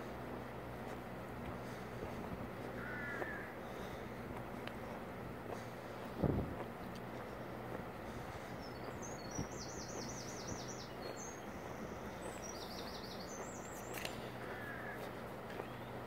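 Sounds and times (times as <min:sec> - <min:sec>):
outdoor background hiss: 0:00.0 - 0:16.0
songbird singing: 0:00.0 - 0:16.0.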